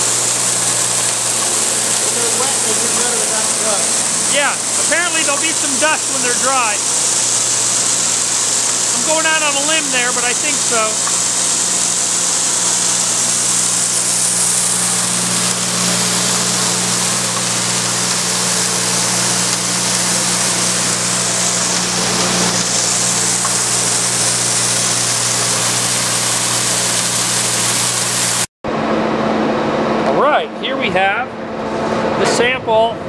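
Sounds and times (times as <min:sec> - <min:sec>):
shredder motor humming: 0:00.0 - 0:32.5.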